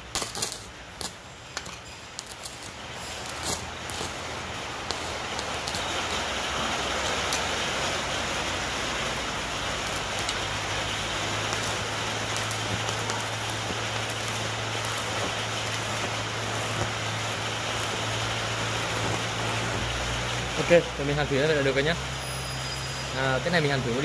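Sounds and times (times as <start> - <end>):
welding arc crackling and popping: 0.0 - 24.0.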